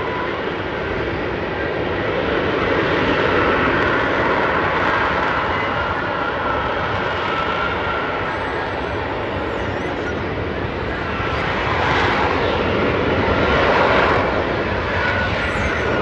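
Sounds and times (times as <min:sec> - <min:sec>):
fighter jet flying past: 0:00.0 - 0:16.0.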